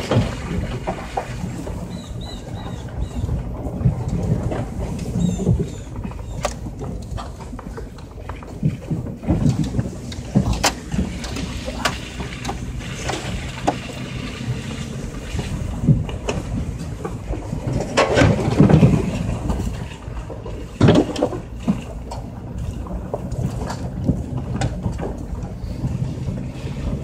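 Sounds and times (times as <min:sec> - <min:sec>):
engine and tyre rumble: 0:00.0 - 0:27.0
truck body knocks and rattles: 0:00.0 - 0:27.0.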